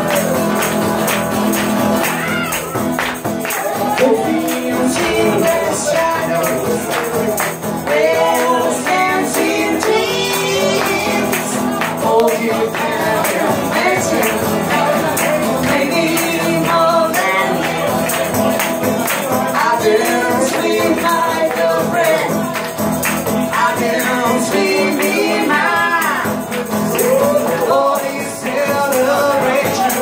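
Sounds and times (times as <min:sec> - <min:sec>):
acoustic guitar: 0:00.0 - 0:30.0
woman singing: 0:03.5 - 0:17.9, 0:19.5 - 0:22.7, 0:23.4 - 0:30.0
man singing: 0:03.8 - 0:18.6, 0:19.2 - 0:22.7, 0:23.4 - 0:30.0.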